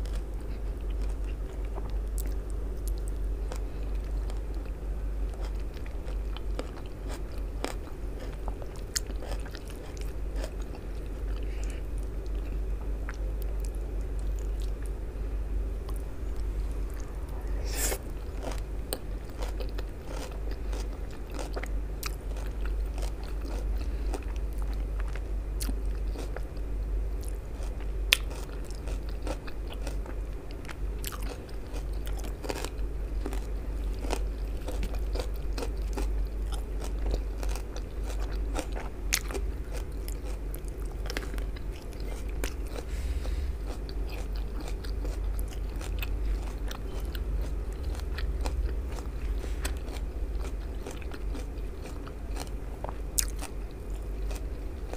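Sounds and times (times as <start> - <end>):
chewing and crunching food: 0.0 - 15.2, 15.8 - 54.9
steady low hum: 0.0 - 54.9.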